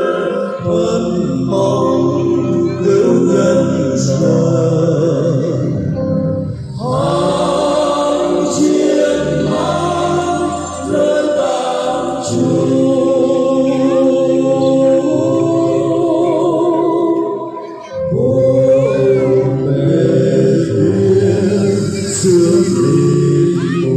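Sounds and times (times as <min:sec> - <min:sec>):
choir singing a carol: 0:00.0 - 0:23.9.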